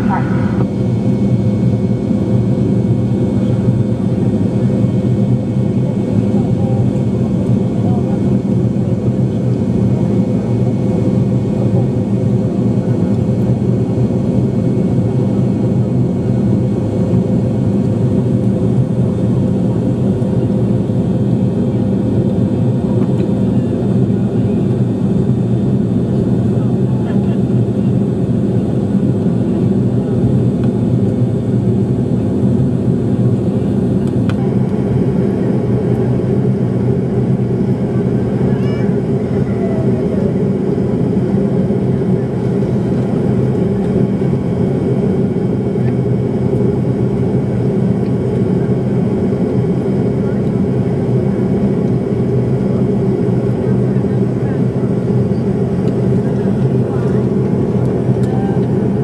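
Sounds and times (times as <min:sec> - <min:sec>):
airliner cabin roar: 0:00.0 - 0:59.0.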